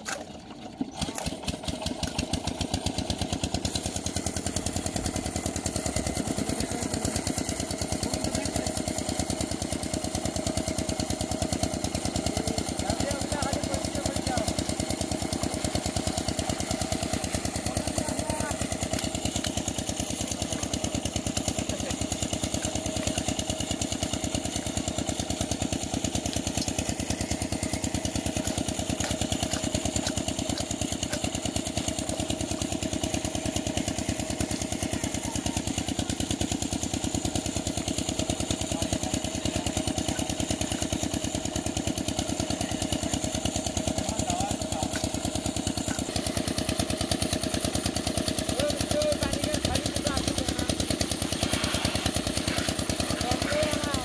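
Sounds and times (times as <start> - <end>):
small water pump engine chugging: 0.0 - 54.0.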